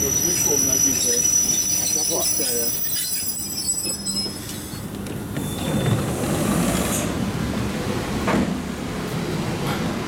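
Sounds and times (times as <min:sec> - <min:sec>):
train carriage rumble: 0:00.0 - 0:10.0.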